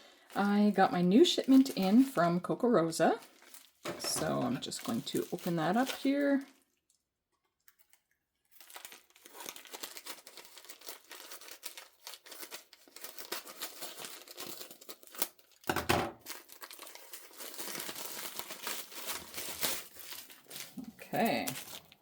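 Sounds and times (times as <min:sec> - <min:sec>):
packaging crinkling and tearing: 0:03.1 - 0:06.9, 0:07.6 - 0:22.0.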